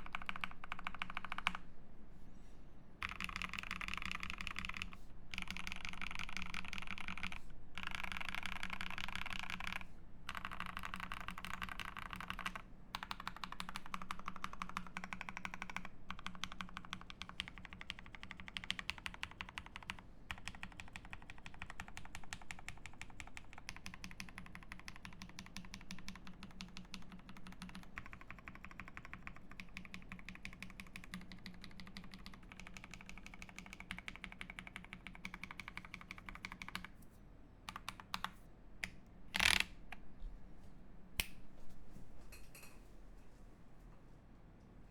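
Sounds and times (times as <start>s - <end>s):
mechanical keyboard typing: 0.0s - 1.6s, 3.0s - 37.0s, 37.7s - 39.7s.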